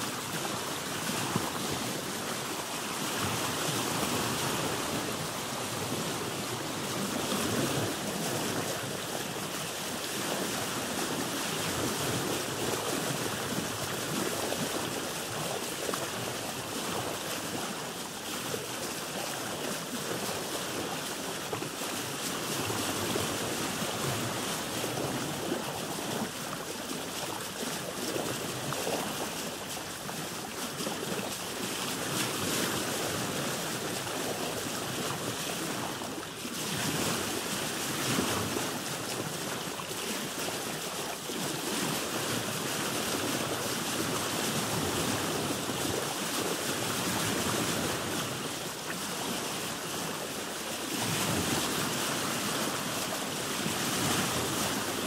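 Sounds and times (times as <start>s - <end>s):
ocean waves washing around a boat: 0.0s - 55.0s.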